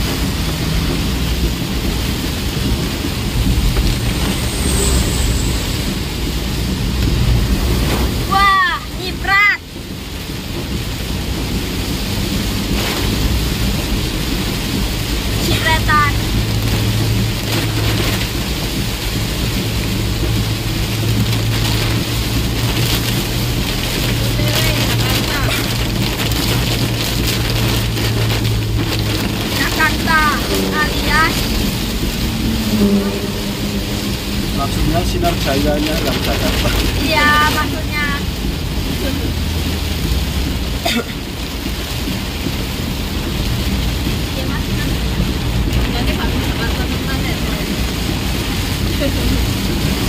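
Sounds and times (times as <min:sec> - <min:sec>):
car low rumble: 0:00.0 - 0:50.0
engine humming: 0:00.0 - 0:50.0
heavy rain drumming on car roof: 0:00.0 - 0:50.0.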